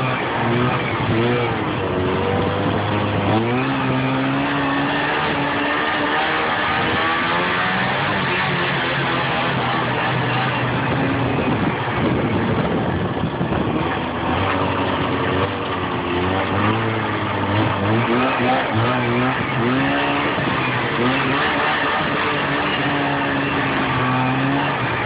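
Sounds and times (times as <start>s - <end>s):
snowmobile engine running: 0.0s - 25.0s
steady rushing noise: 0.0s - 25.0s.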